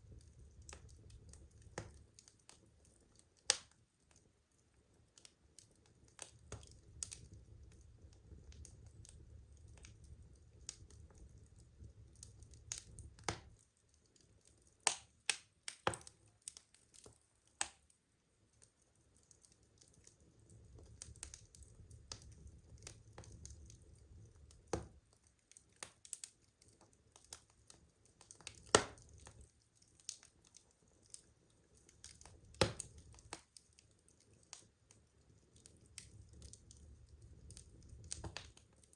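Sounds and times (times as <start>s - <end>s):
burning logs crackling: 0.0s - 38.9s.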